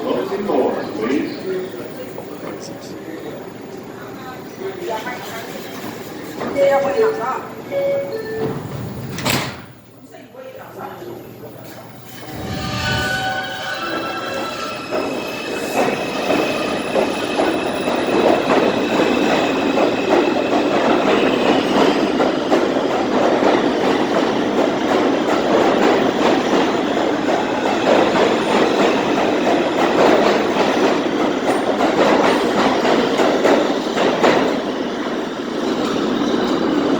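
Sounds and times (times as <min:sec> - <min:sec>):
subway train rumbling: 0:00.0 - 0:36.9.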